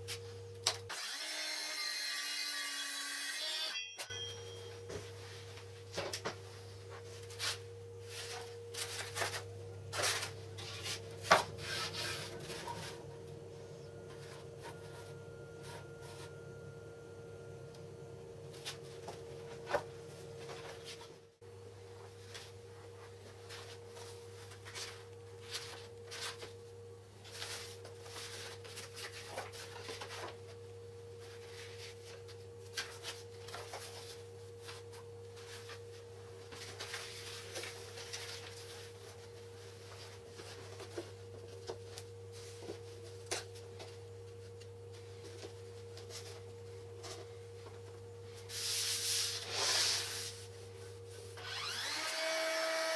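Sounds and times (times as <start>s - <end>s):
steady hum: 4.1s - 51.9s.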